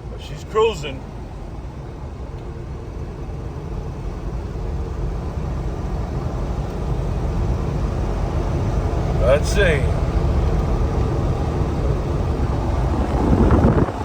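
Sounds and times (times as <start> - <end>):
car engine hum: 0.0 - 14.0
road rumble: 0.0 - 14.0.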